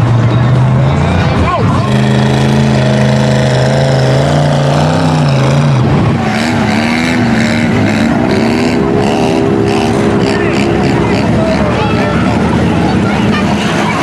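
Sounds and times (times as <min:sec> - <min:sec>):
truck engines revving hard: 0:00.0 - 0:14.0.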